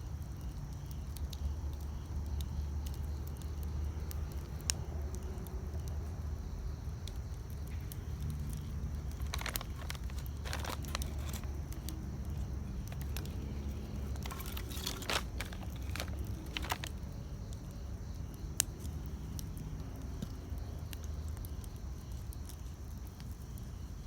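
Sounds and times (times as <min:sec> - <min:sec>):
campfire crackling: 0:00.0 - 0:24.0
fire popping: 0:00.2 - 0:24.0.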